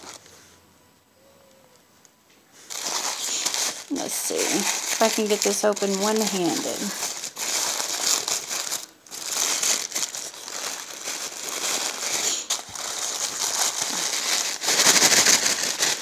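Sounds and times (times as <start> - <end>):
tissue paper crinkling: 2.7 - 16.0.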